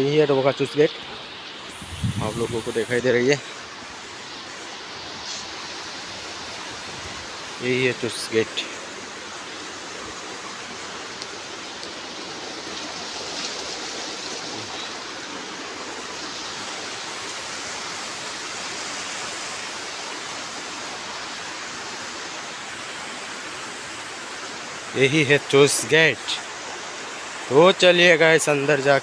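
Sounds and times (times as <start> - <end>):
water rushing through sluice gate: 0.2 - 29.0.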